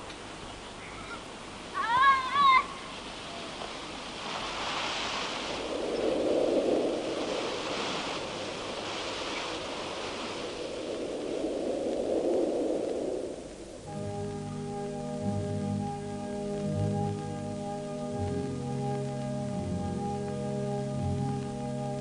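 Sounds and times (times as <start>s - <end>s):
rushing noise in waves: 0.0s - 22.0s.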